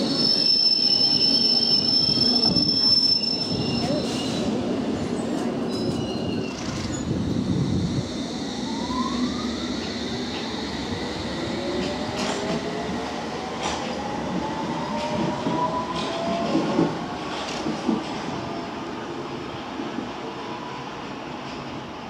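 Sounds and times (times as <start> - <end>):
rumble of train wheels: 0.0 - 22.0.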